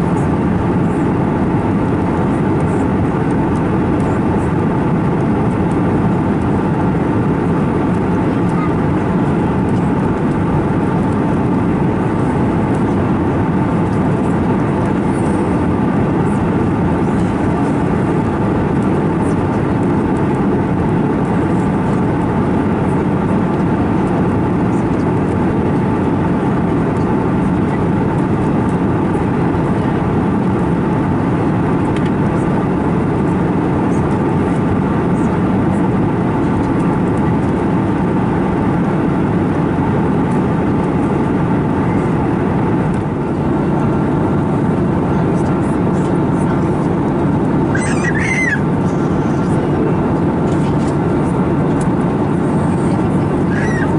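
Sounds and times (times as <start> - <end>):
airliner cabin drone: 0.0 - 53.9.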